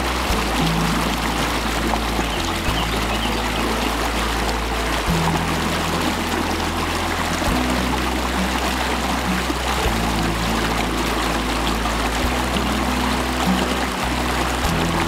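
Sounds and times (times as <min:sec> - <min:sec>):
soft background music: 0:00.0 - 0:15.0
stream splashing over rocks: 0:00.0 - 0:15.0.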